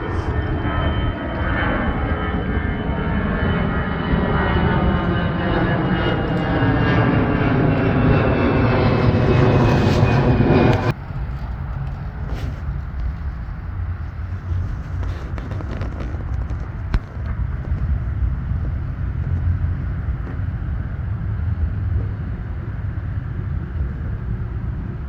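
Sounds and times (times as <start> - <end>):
jet airliner passing overhead: 0.0 - 25.0
outdoor noise: 0.0 - 25.0.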